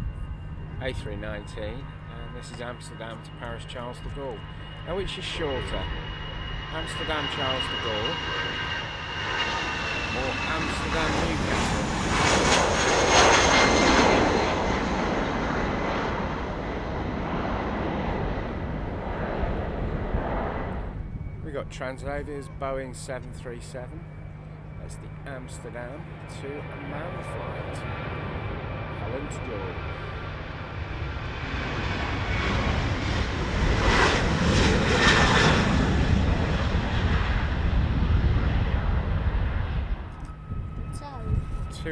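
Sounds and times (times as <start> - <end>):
jet airliner passing: 0.0 - 41.9.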